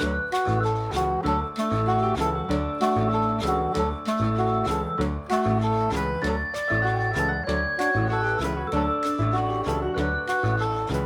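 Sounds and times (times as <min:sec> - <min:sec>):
bouncing bass line: 0:00.0 - 0:11.0
organ-like keyboard music: 0:00.0 - 0:11.0
steady beat: 0:00.0 - 0:11.0.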